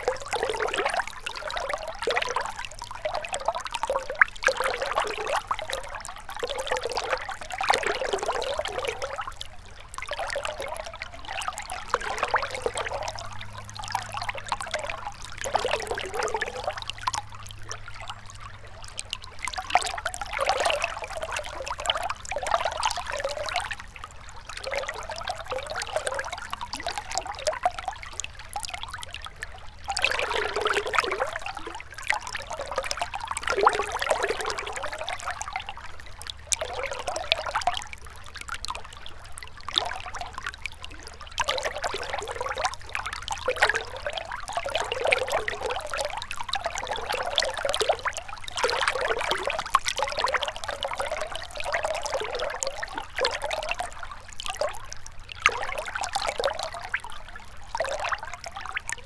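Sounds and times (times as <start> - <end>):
river water burbling: 0.0 - 59.0.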